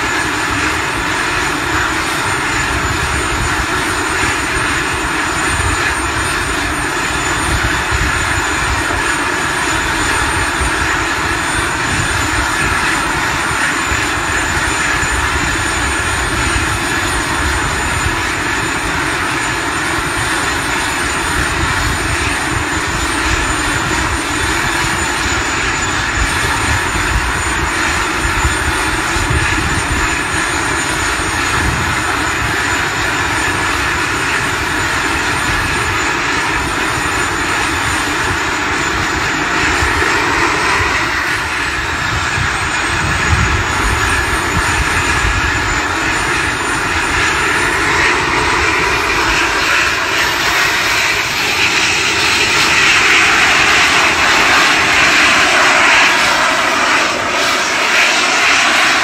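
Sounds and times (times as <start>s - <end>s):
jet turbines rushing: 0.0s - 59.0s
thin high whine: 0.0s - 59.0s.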